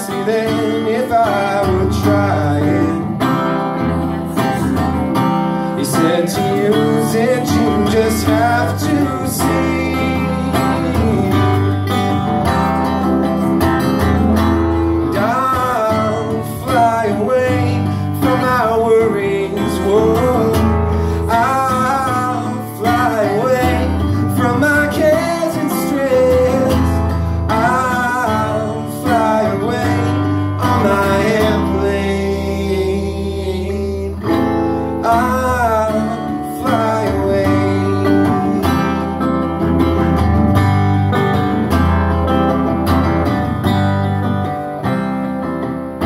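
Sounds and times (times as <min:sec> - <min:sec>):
two guitars playing live: 0:00.0 - 0:46.0.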